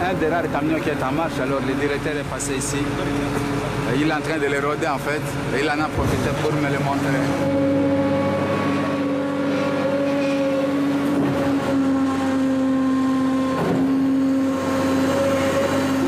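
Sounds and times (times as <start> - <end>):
garbage truck compactor whining: 0.0 - 16.0.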